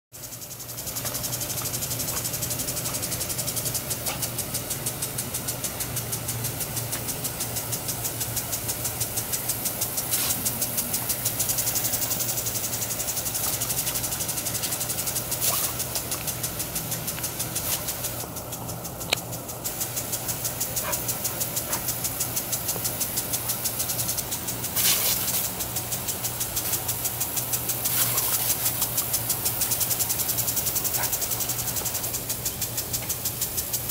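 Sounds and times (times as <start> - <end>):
sprinkler arm ticking: 0.2 - 33.9
steady low hum: 0.2 - 33.9
water spray hissing: 0.2 - 33.9.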